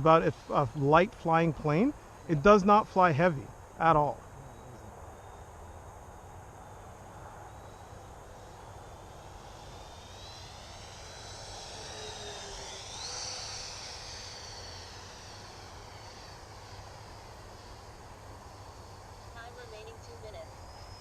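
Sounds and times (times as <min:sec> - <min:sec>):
model jet motor whine: 0:00.0 - 0:21.0.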